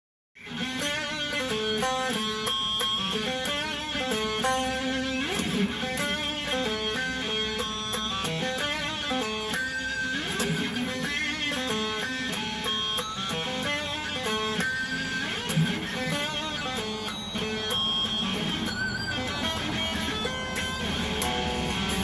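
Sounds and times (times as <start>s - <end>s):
electric guitar picked notes: 0.4s - 22.0s.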